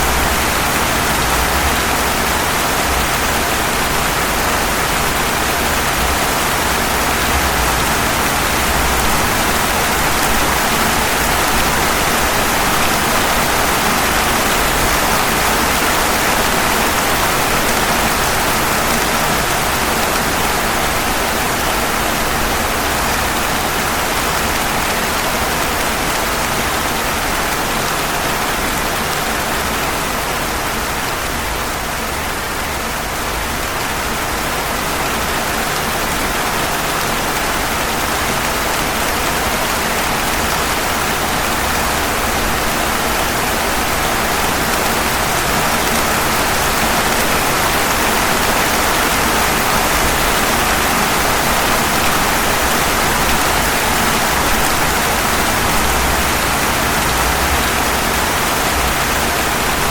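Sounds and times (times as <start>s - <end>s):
rain falling on pavement: 0.0s - 59.9s.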